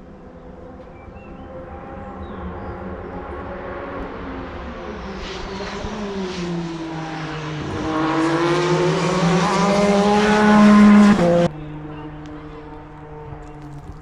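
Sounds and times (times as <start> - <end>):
racing car engine: 0.0 - 14.0.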